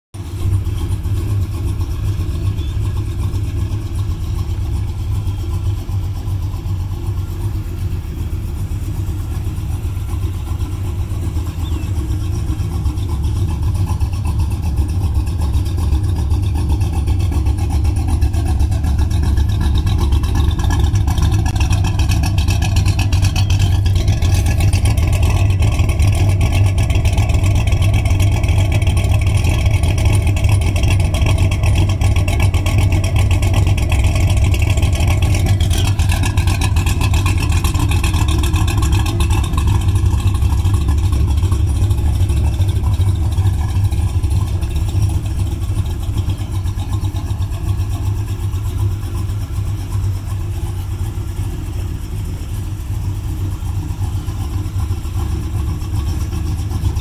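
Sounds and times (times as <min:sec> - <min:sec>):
car engine idling: 0:00.1 - 0:57.0.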